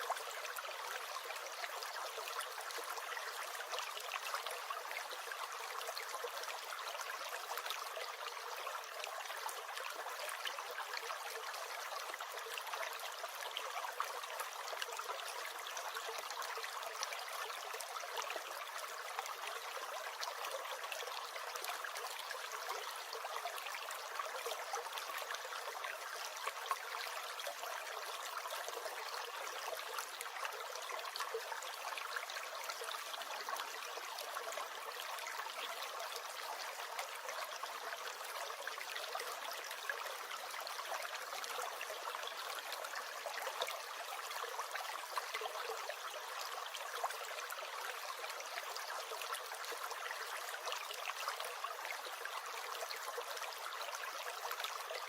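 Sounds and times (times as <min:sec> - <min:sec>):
small stream gurgling: 0:00.0 - 0:55.0.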